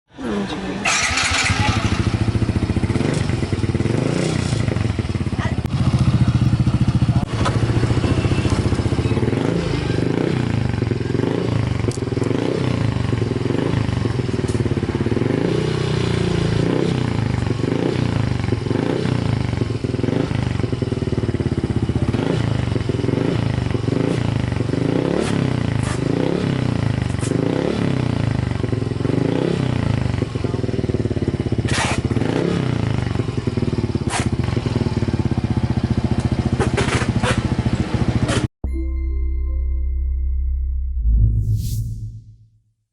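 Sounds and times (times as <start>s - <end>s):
scooter engine revving: 0.7s - 38.5s.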